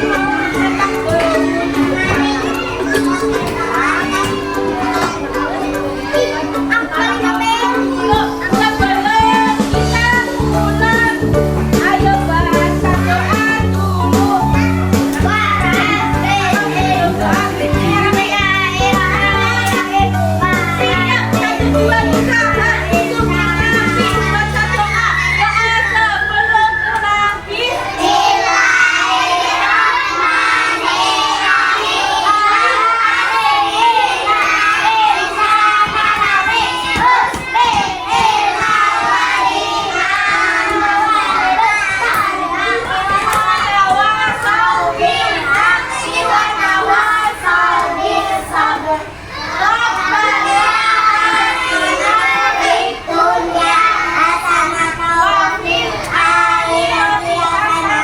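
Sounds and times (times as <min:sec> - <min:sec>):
children singing and shouting: 0:00.0 - 0:58.0.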